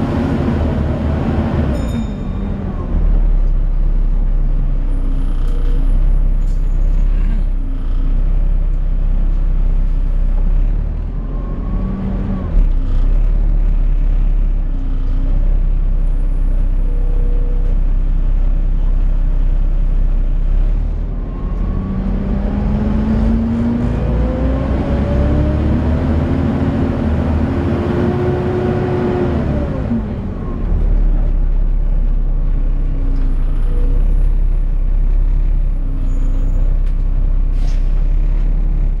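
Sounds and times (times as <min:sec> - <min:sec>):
bus engine running: 0:00.0 - 0:39.0.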